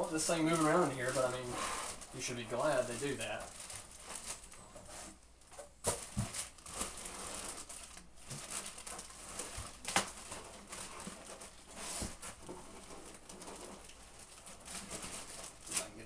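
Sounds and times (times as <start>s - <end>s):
packing material rustling: 0.0s - 16.0s.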